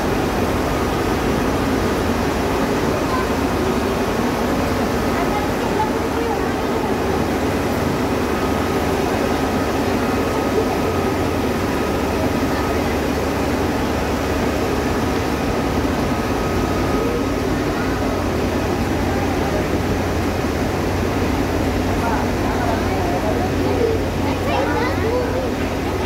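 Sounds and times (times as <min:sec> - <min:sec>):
factory machinery running: 0:00.0 - 0:26.0.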